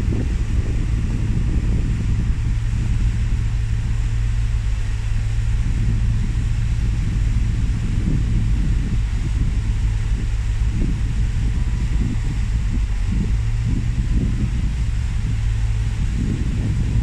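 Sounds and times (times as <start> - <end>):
marine engines droning: 0.0 - 17.0.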